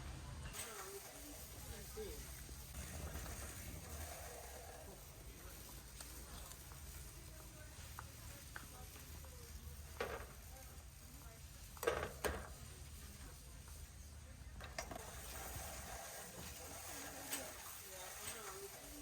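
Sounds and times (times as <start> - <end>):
warehouse background hum: 0.0 - 19.0.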